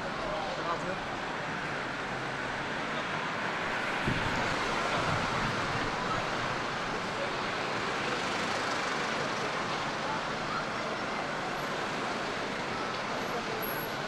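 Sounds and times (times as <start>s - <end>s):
road traffic: 0.0s - 14.0s
wind: 0.0s - 14.0s.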